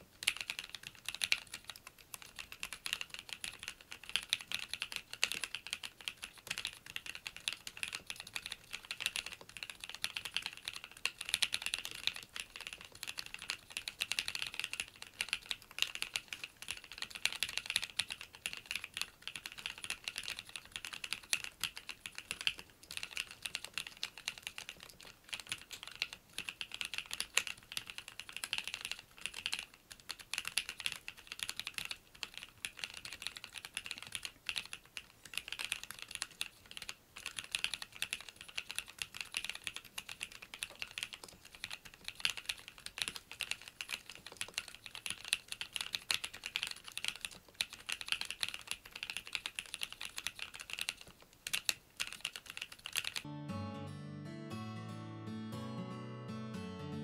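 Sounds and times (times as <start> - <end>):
mechanical keyboard typing: 0.0 - 53.3.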